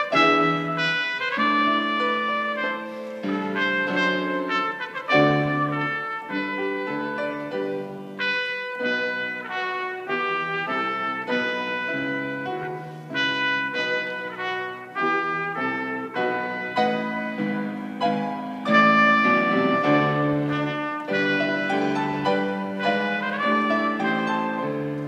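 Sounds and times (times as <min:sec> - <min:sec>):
piano accompaniment: 0:00.0 - 0:25.0
trumpet playing hymn melody: 0:00.0 - 0:25.0.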